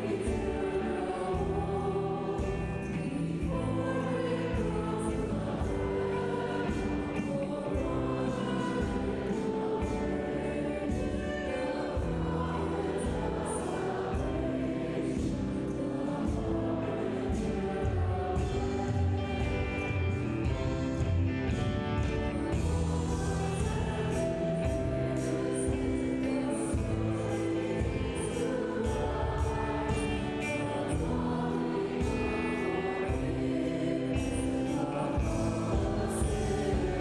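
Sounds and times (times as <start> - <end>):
praise band with beat and bass: 0.0 - 37.0
voices singing a hymn: 0.0 - 37.0.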